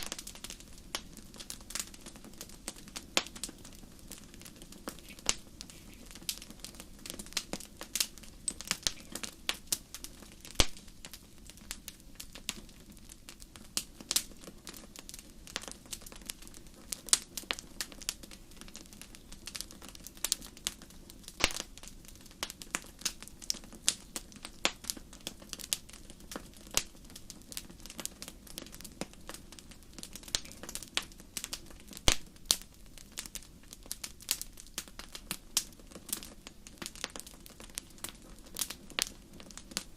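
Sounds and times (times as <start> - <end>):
low hiss of burning: 0.0 - 39.9
wood fire pops and snaps: 0.0 - 39.9.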